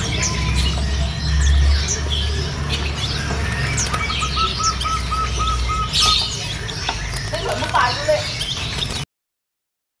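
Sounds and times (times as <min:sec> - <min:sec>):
caged birds chirping: 0:00.0 - 0:09.1.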